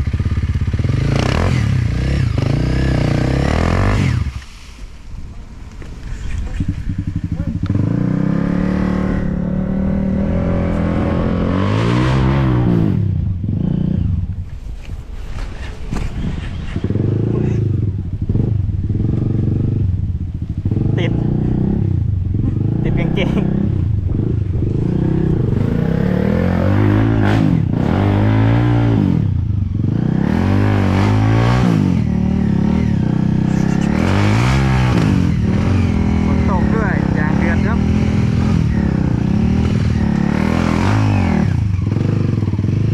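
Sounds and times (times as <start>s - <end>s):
dirt bike engine revving: 0.0s - 4.4s, 6.6s - 14.2s, 16.2s - 42.9s.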